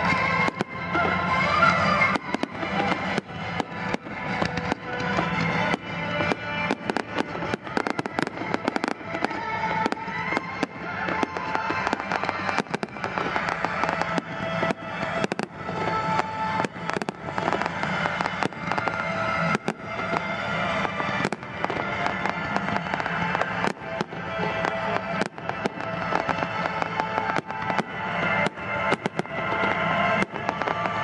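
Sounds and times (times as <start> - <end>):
music playing: 0.0 - 31.0.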